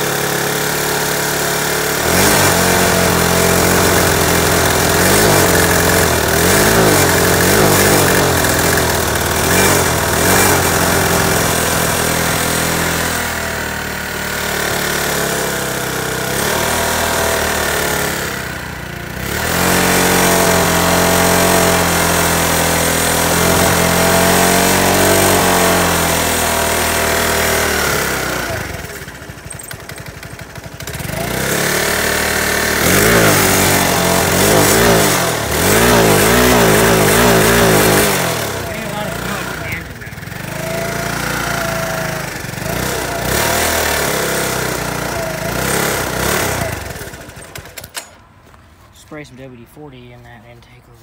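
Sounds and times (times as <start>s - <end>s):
scooter engine revving: 0.0s - 49.2s.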